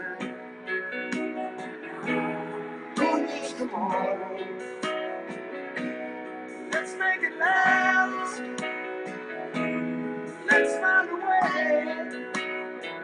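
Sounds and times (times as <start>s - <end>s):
person singing: 0.0s - 5.4s, 6.6s - 9.6s, 10.4s - 13.0s
strummed guitar chords: 0.0s - 13.0s.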